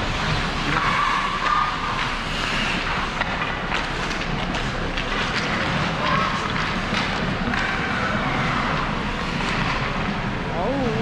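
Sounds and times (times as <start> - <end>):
skates on ice: 0.0 - 10.3
hockey sticks and puck clacking: 0.1 - 10.2.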